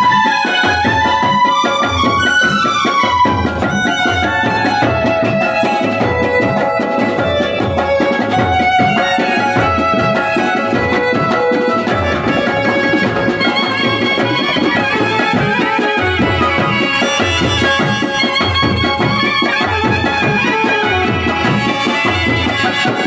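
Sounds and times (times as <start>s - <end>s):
steady drum beat: 0.0s - 23.0s.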